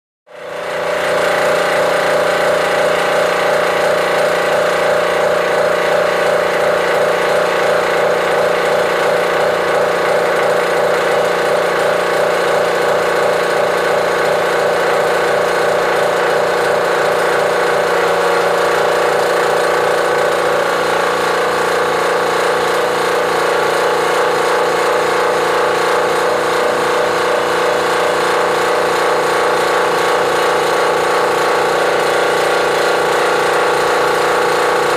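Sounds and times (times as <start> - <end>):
air compressor running: 0.3 - 34.9.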